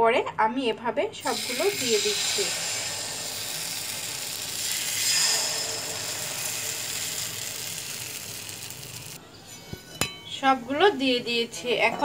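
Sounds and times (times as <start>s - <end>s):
batter sizzling in hot mould: 1.3s - 12.0s.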